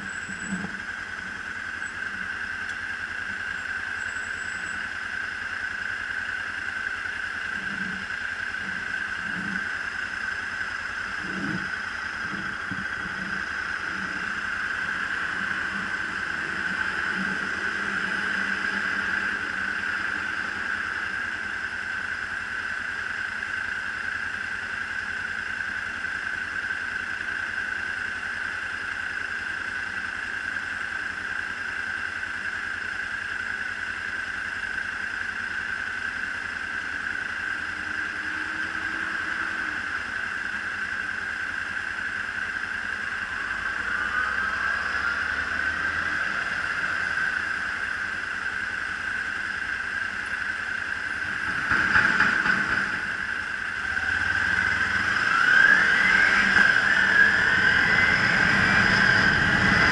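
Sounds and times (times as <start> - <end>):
motorcycle engine idling: 0.0 - 55.0
passing traffic: 0.0 - 59.9.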